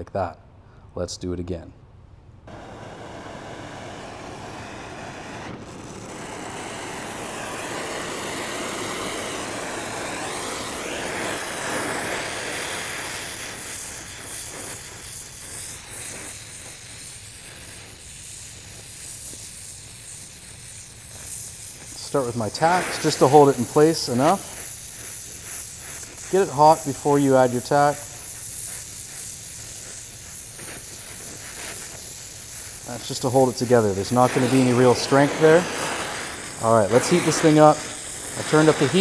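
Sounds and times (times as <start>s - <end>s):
welding torch flame roaring: 2.5s - 39.0s.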